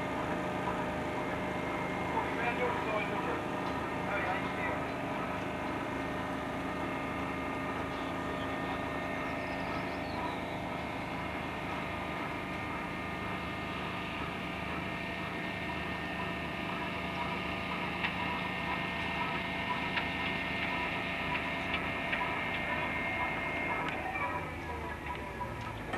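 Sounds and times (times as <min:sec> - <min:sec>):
machinery drone: 0:00.0 - 0:25.9.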